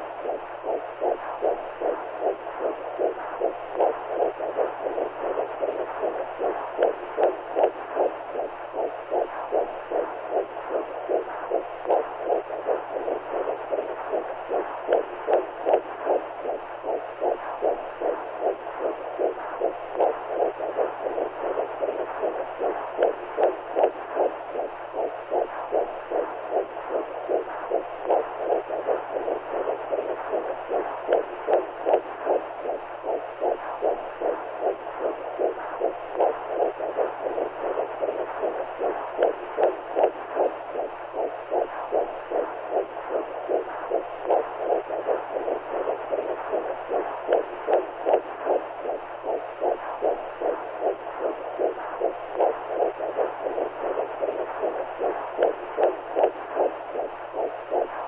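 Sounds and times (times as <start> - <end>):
faint low hum: 0.0 - 58.0
pulsing whooshing heartbeat noise: 0.0 - 58.0.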